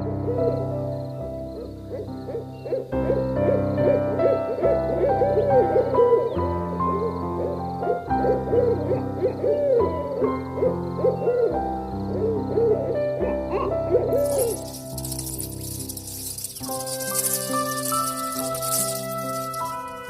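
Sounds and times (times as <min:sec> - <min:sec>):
background music with held chords: 0:00.0 - 0:20.0.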